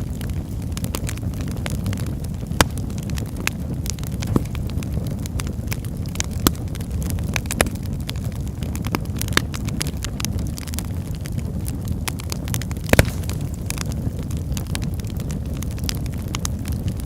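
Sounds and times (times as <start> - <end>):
fire burning: 0.0 - 17.0
fire crackling and popping: 0.0 - 17.0.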